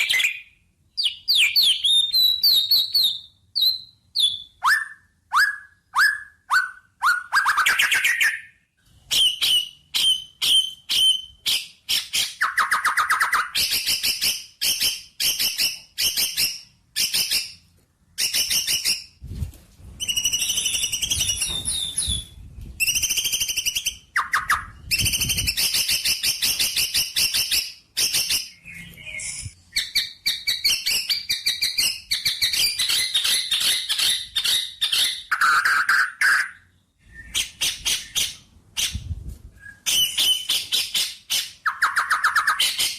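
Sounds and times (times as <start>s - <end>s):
songbird chirping and trilling: 0.0s - 17.6s, 20.0s - 39.1s, 39.7s - 42.9s.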